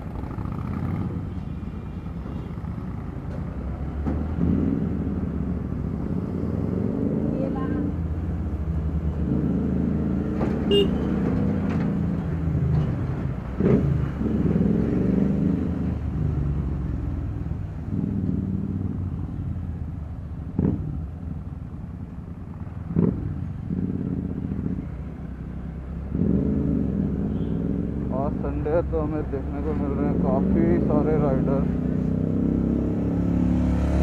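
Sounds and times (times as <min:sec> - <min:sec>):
heavy traffic: 0:00.0 - 0:34.0.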